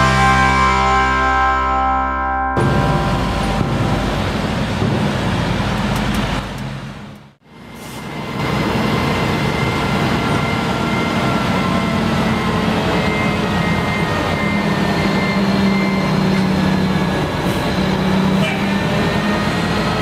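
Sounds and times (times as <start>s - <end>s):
diesel engine under load: 2.6s - 20.0s.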